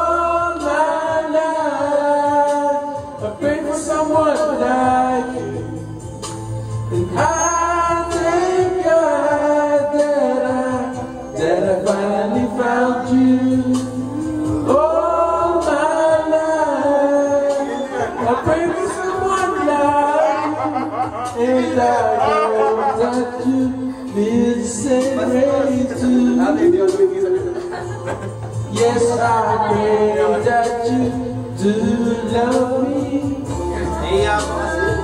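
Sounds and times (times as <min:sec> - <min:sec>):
ballad backing track: 0:00.0 - 0:35.0
people singing into microphones: 0:00.0 - 0:35.0.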